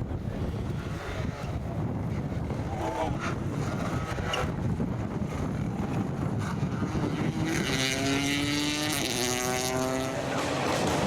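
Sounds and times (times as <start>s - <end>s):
rally car engine passing: 0.4s - 11.0s.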